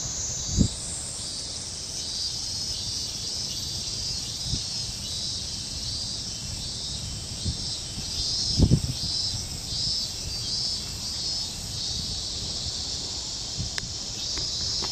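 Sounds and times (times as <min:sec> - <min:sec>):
insect chorus chirring: 0:00.0 - 0:14.9.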